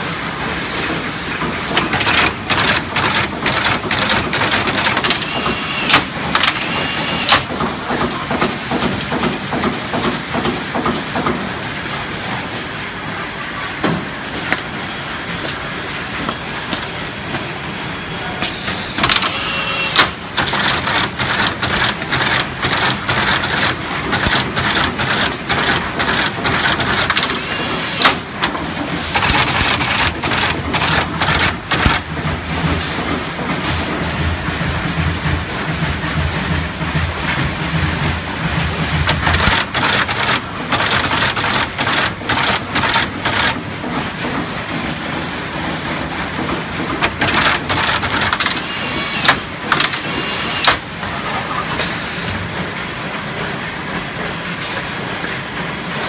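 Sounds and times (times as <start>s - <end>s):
steady machine hum: 0.0s - 8.3s, 14.3s - 56.0s.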